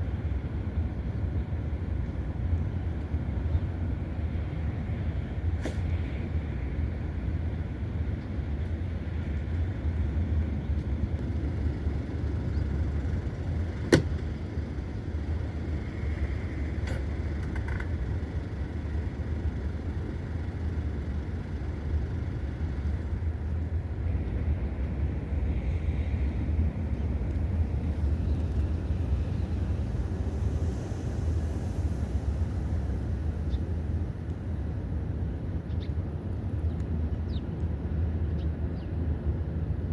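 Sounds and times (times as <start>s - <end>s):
low outdoor rumble: 0.0s - 39.9s.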